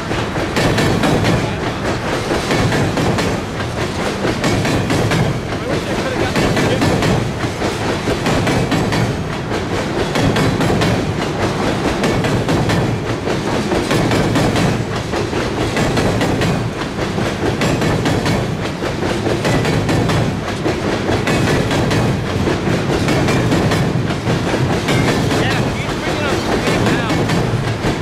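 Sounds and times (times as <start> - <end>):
rail cars rumbling over bridge: 0.0 - 28.0
wheels clacking over rail: 0.0 - 28.0.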